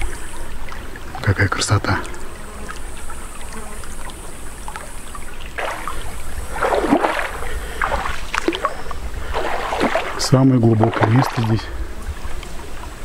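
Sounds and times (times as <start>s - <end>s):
flowing river water: 0.0s - 13.0s
legs wading and splashing: 0.0s - 13.0s.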